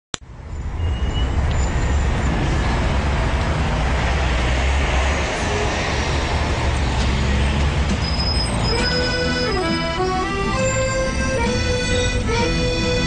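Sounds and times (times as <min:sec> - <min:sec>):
vehicle rumbling: 0:00.2 - 0:13.0.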